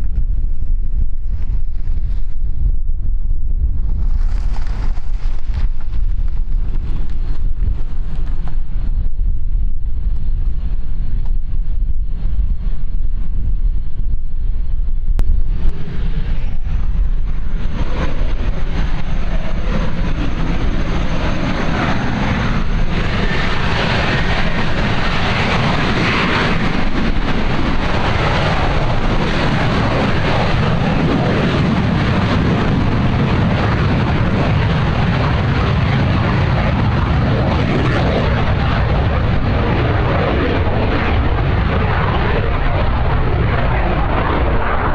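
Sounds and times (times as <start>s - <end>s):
jet engines whining and roaring: 0.0s - 44.9s
wind buffeting microphone: 0.0s - 44.9s.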